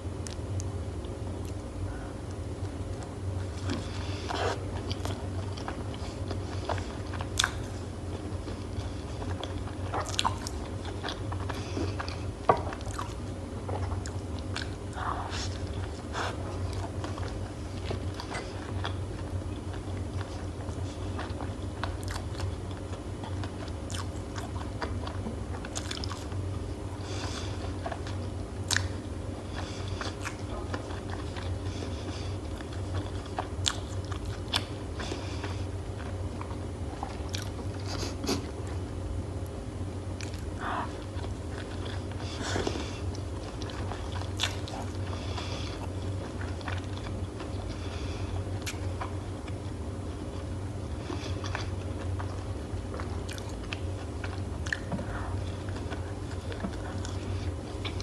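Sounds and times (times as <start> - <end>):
crunchy chewing: 0.2 - 58.0.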